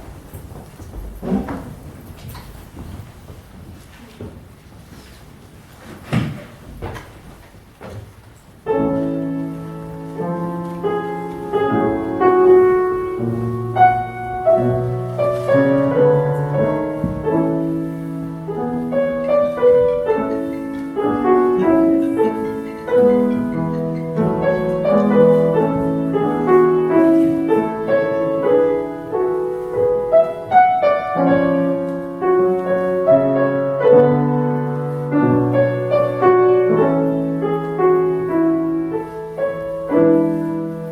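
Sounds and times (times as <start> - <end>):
grand piano classical piece: 0.0 - 40.9.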